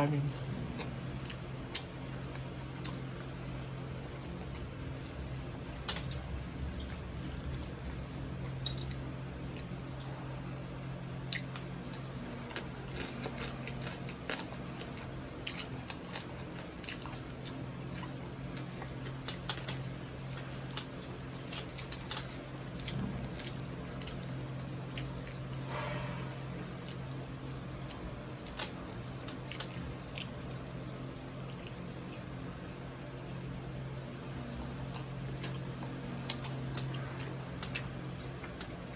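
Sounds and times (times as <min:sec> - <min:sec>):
chewing crispy food: 0:00.0 - 0:10.6, 0:11.2 - 0:38.9
steady low hum: 0:00.0 - 0:38.9.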